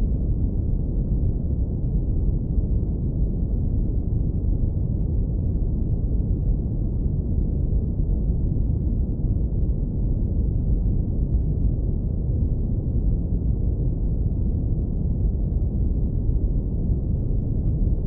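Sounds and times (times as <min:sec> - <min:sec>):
deep rumbling brown noise: 0:00.0 - 0:18.0.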